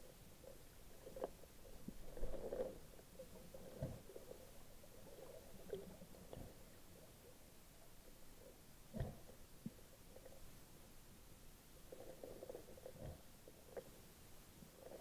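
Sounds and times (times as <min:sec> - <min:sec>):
underwater bubbles: 0:00.3 - 0:10.6, 0:11.8 - 0:14.0, 0:14.6 - 0:15.0.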